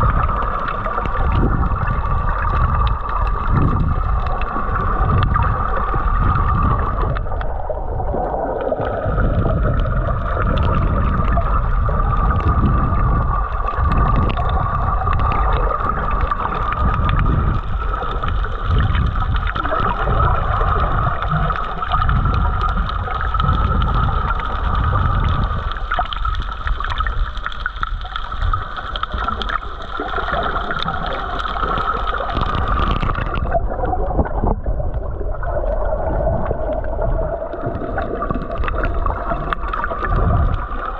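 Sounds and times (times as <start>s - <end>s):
water surging underwater: 0.0s - 40.9s.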